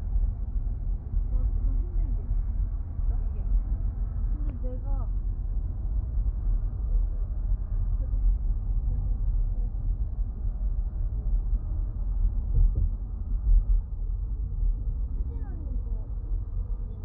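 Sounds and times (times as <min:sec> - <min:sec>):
muffled low rumble: 0:00.0 - 0:17.0.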